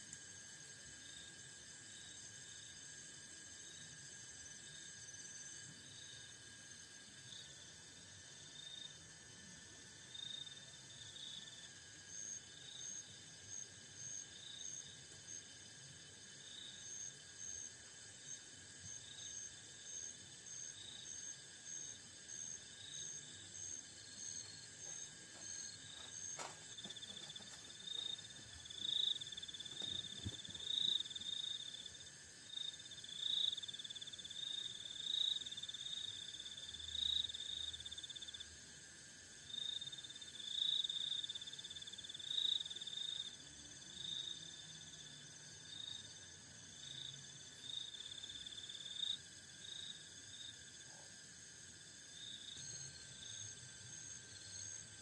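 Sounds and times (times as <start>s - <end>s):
insects trilling chirps: 0.1s - 55.0s.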